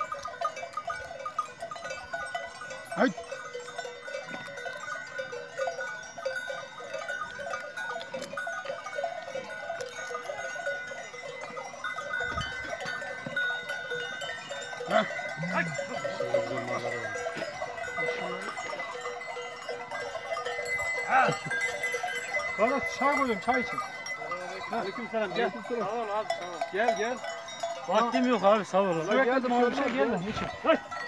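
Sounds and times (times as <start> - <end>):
cattle bells clanking: 0.0 - 31.0.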